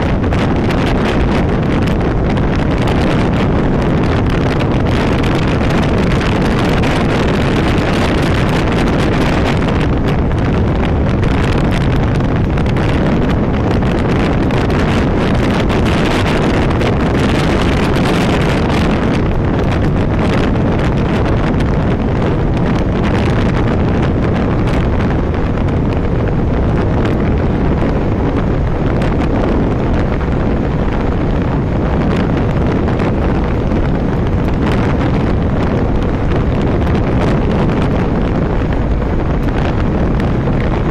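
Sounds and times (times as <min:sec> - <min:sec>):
loud wind rush on microphone: 0:00.0 - 0:40.9.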